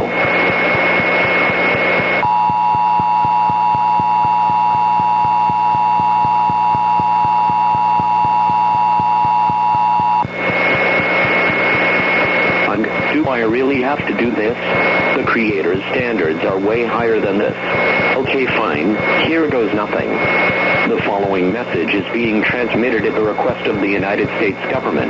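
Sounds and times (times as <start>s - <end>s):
hissing static: 0.0s - 25.0s.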